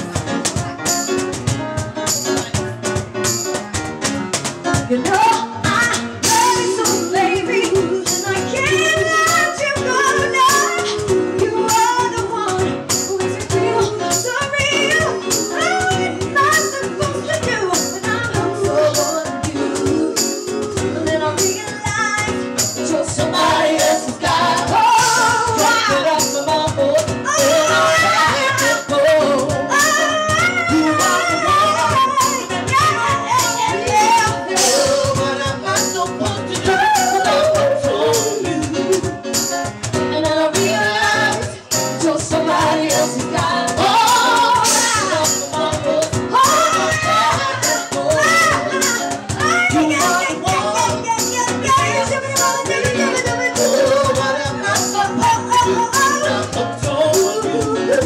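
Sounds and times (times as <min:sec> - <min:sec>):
live band playing: 0:00.0 - 0:58.0
woman singing into a microphone: 0:04.7 - 0:39.3, 0:39.9 - 0:58.0.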